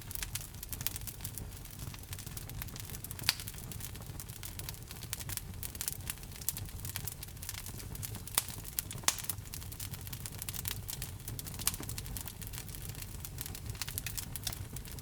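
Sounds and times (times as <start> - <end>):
fire popping and snapping: 0.0 - 15.0
wood fire crackling: 0.0 - 15.0.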